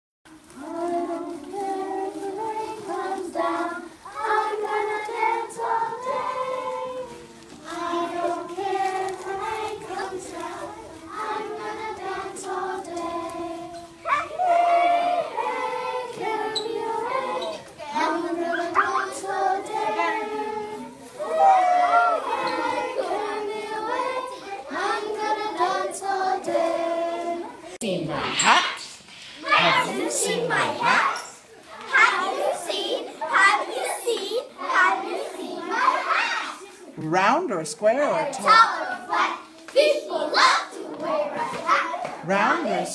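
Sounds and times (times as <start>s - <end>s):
children singing in unison: 0.3s - 36.9s, 38.3s - 42.2s.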